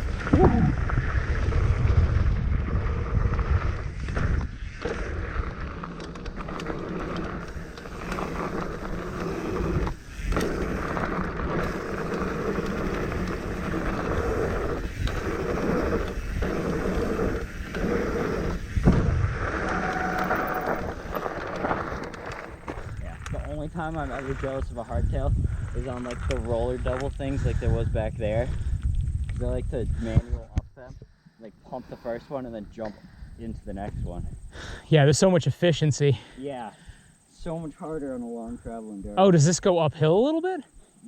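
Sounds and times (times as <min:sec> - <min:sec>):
bike tyres rolling over dirt: 0:00.0 - 0:30.5, 0:32.0 - 0:36.3
wind rush on microphone: 0:00.0 - 0:31.1, 0:32.6 - 0:34.9.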